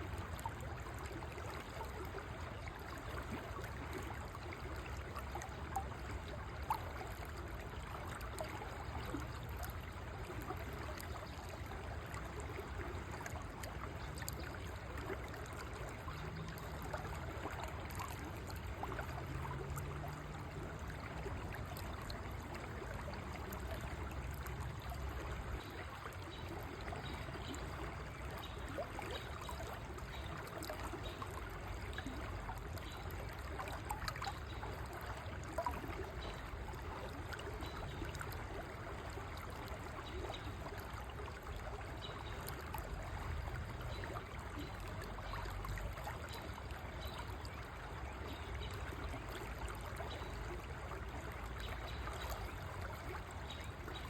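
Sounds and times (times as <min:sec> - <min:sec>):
faint splashes: 0:00.0 - 0:54.0
river water flowing: 0:00.0 - 0:54.0.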